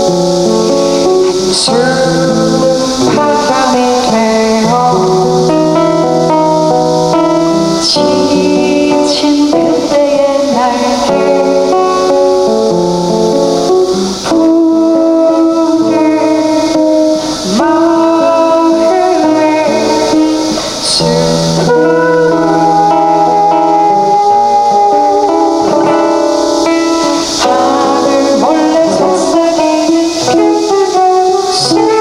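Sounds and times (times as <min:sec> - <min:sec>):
live band playing a song: 0:00.0 - 0:32.0.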